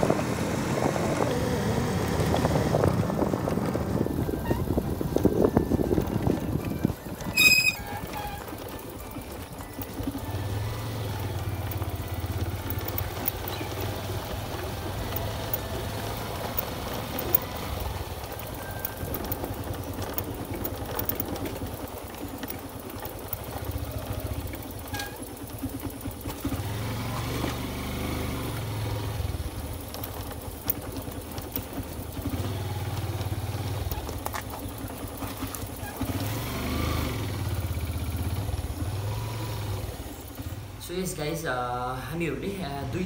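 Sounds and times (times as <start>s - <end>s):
motorcycle engine rumble: 0.0s - 43.0s.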